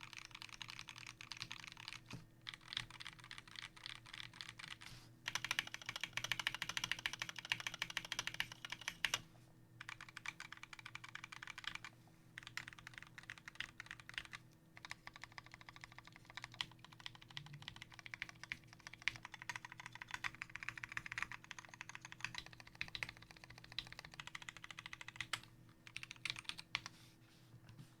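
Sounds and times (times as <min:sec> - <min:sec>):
fast typing on mechanical keyboard: 0:00.0 - 0:09.2, 0:09.8 - 0:26.9.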